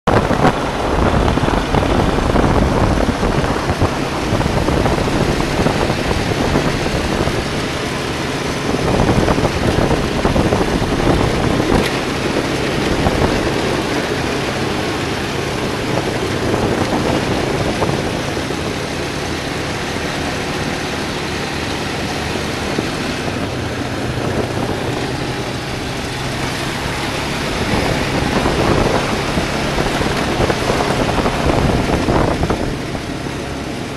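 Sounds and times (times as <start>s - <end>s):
atv engine running: 0.0s - 33.9s
wind rushing over microphone: 0.0s - 33.9s.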